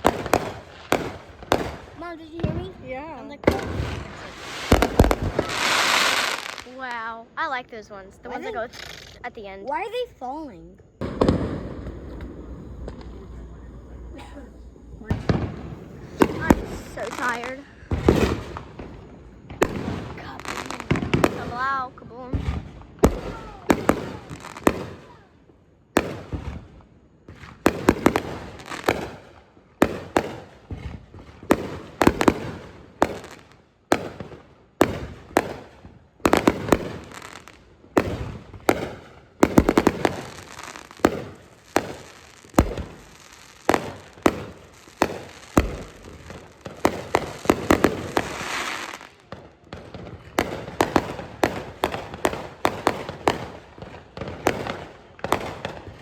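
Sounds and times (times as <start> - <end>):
firework pops: 0.0 - 7.1, 8.7 - 9.9, 11.0 - 13.3, 15.1 - 25.2, 27.3 - 35.7, 36.3 - 56.0
firework shells booming: 0.0 - 10.0, 10.9 - 56.0
firework crackle: 0.0 - 56.0.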